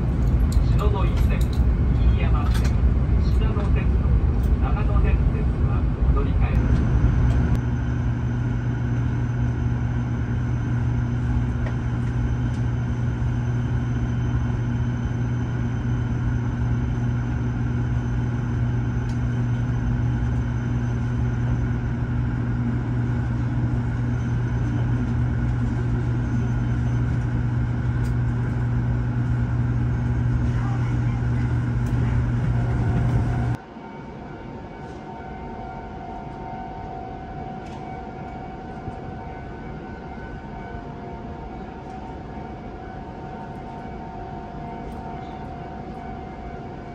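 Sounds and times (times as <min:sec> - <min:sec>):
train low hum: 0:00.0 - 0:46.9.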